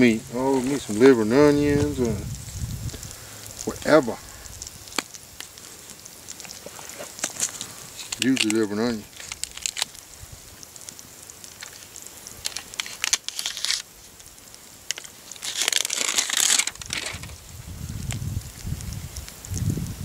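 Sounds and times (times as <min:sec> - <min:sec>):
bursts of hissing: 0:00.0 - 0:20.0
crackles and pops: 0:00.0 - 0:20.0
meat sizzling in a pan: 0:00.0 - 0:20.0.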